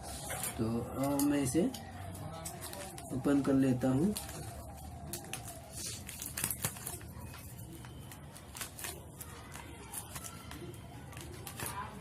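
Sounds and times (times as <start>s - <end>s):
packaging crinkling and tearing: 0.1s - 12.0s.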